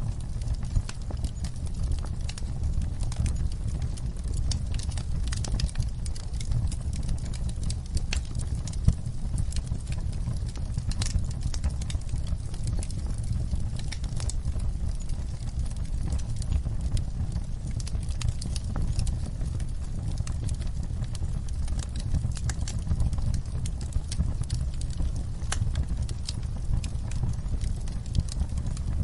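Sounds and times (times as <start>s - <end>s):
steady low rumble: 0.0s - 29.0s
wood fire crackling and popping: 0.0s - 29.0s.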